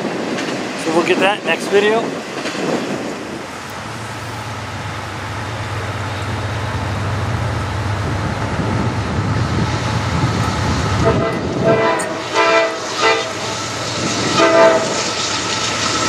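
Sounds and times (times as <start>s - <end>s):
diesel locomotive engine drone: 0.0s - 16.0s
train rumble: 0.0s - 16.0s.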